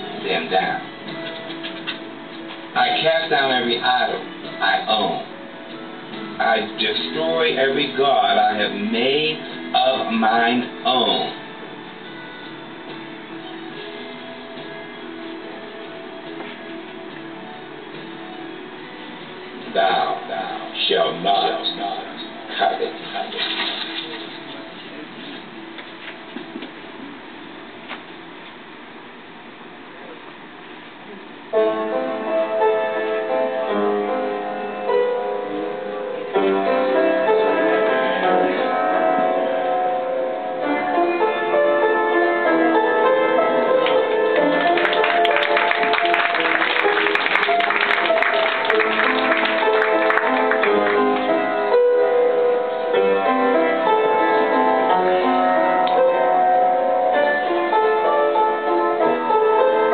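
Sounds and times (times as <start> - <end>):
piano playing: 0.0 - 27.8, 31.5 - 59.9.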